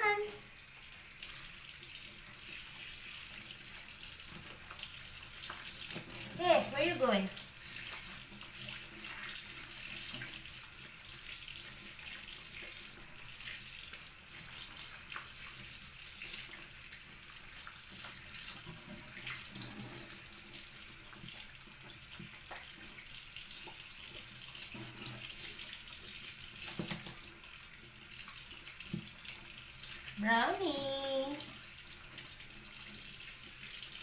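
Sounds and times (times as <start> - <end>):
tap water running into sink: 0.0 - 34.0.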